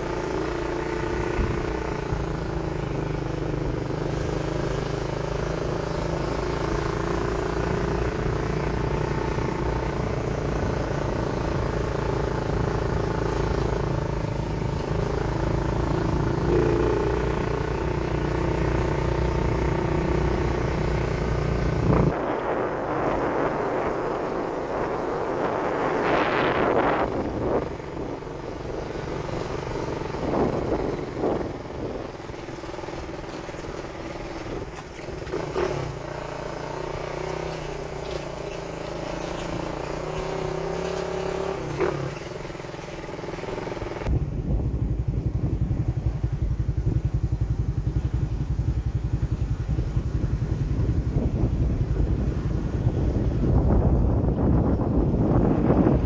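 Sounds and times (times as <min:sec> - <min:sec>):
motorcycle engine running: 0:00.0 - 0:56.0
wind buffeting microphone: 0:04.9 - 0:56.0.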